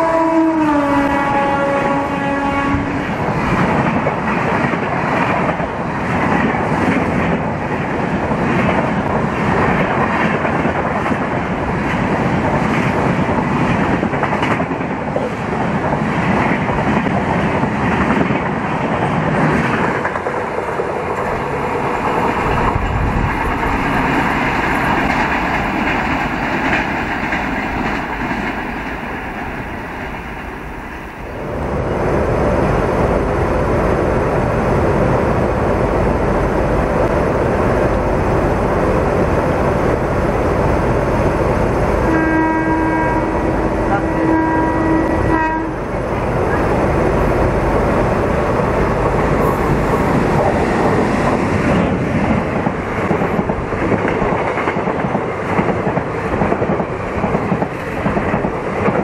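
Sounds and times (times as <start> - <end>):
train rushing past: 0.0 - 59.0.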